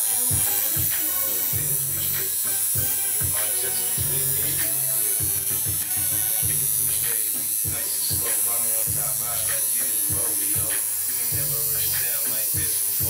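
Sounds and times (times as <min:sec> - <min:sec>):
music with steady beat: 0:00.0 - 0:13.0
tattoo machine buzzing: 0:00.0 - 0:13.0.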